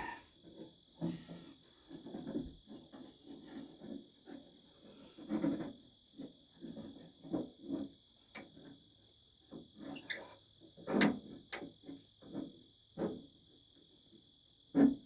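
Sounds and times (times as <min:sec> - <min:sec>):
cricket trill: 0:00.0 - 0:04.4, 0:05.0 - 0:15.0.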